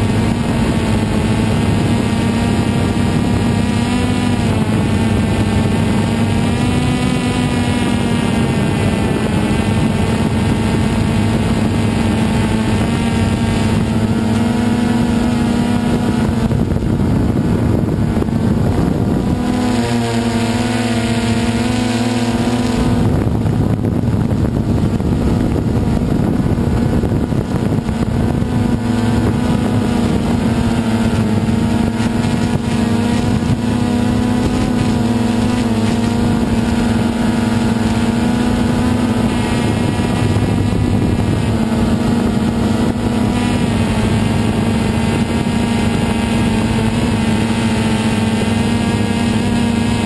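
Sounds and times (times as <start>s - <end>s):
drone propellers humming: 0.0s - 50.0s.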